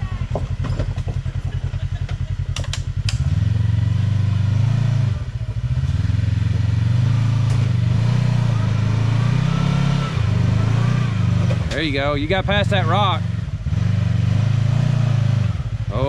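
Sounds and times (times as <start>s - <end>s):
utv engine idling and revving: 0.0s - 16.0s.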